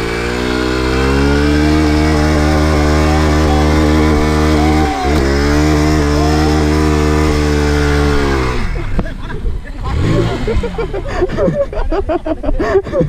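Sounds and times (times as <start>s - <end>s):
motorcycle engine revving high: 0.0s - 12.4s.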